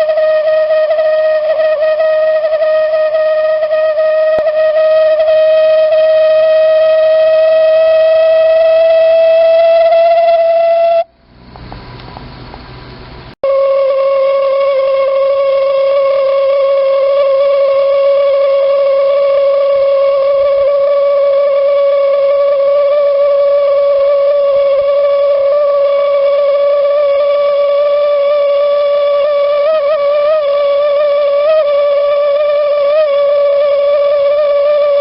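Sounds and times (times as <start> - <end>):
heater whistling resonance: 0.0 - 35.0.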